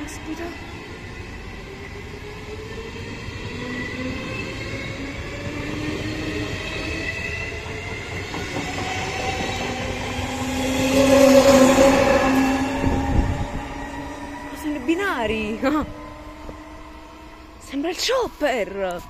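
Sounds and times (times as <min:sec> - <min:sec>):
rising electric whines: 0:01.1 - 0:19.0.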